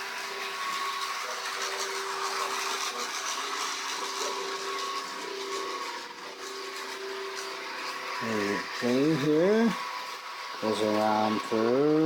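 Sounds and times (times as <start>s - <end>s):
model train motors whirring: 0.0s - 12.0s.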